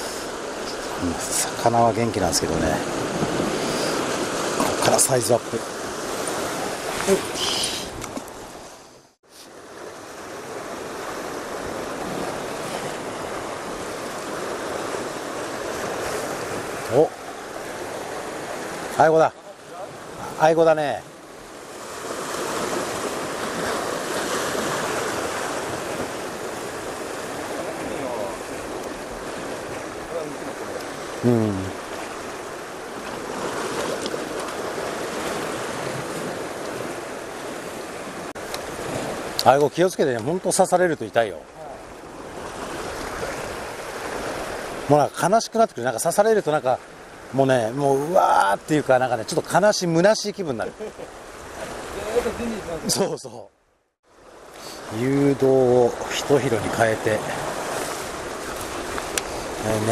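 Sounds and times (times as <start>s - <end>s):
surf washing on rocks: 0.0s - 53.4s, 54.1s - 59.9s
wind: 0.0s - 59.9s.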